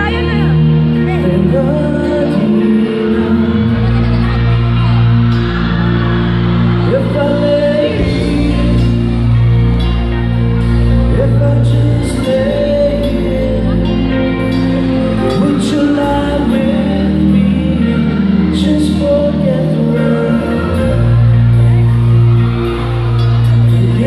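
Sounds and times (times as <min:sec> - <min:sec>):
deep bass: 0:00.0 - 0:24.0
live band playing pop-rock ballad: 0:00.0 - 0:24.0
man singing: 0:00.0 - 0:24.0.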